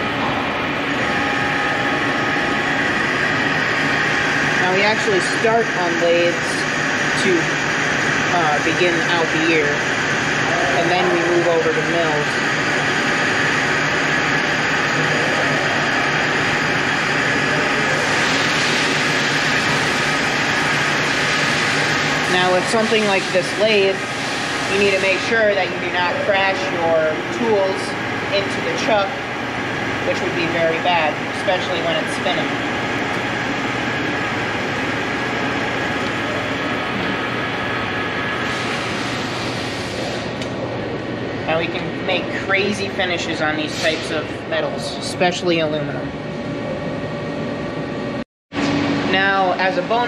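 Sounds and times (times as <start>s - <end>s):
lathe whirring and cutting: 0.0s - 46.4s.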